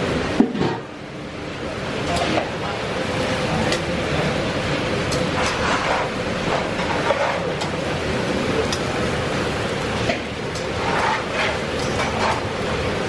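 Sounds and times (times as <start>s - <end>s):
griddle hissing and rumbling: 0.0s - 13.0s.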